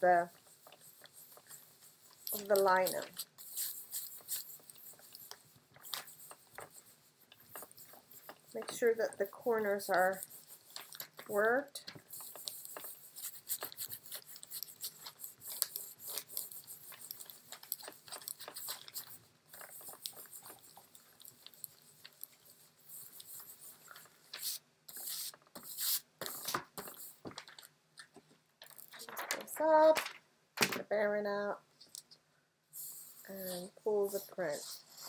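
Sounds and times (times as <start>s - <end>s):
scratchy rubbing on paper: 0.0s - 27.4s, 32.8s - 35.0s.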